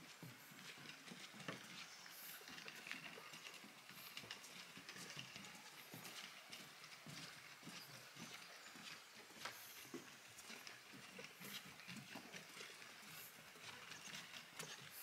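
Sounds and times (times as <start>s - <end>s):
faint footsteps: 0.0s - 15.0s.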